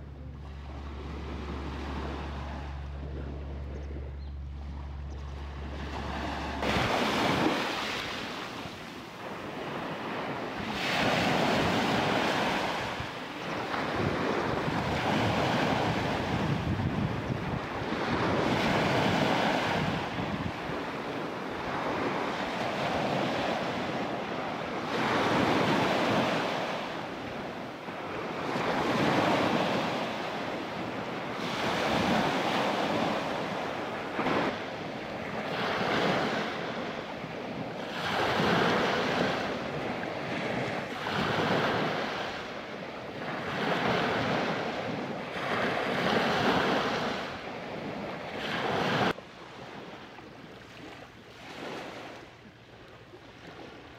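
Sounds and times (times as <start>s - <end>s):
wind buffeting microphone: 0.0s - 49.2s
surf washing onto beach: 5.6s - 49.2s.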